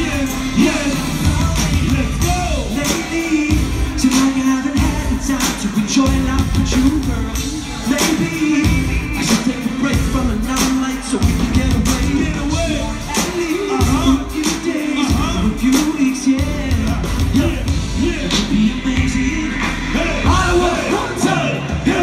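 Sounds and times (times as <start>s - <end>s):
live pop band: 0.0s - 22.0s
man singing: 0.0s - 22.0s
steady drum beat: 0.0s - 22.0s.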